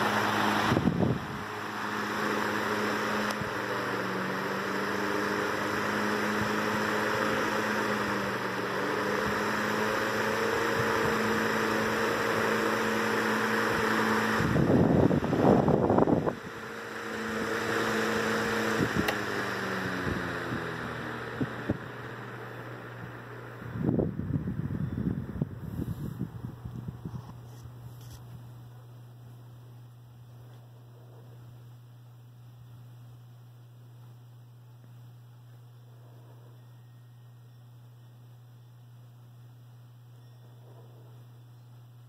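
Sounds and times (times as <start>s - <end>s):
electric fan running: 0.0s - 42.0s.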